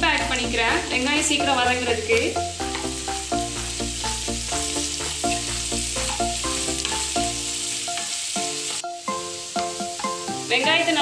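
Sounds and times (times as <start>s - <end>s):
background music: 0.0s - 11.0s
onions sizzling in oil: 0.0s - 11.0s.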